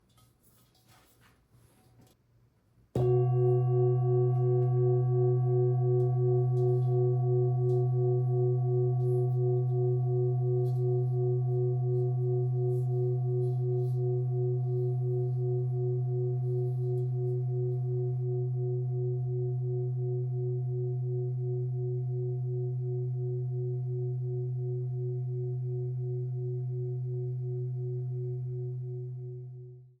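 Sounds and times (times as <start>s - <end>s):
singing bowl ringing: 3.0s - 29.4s.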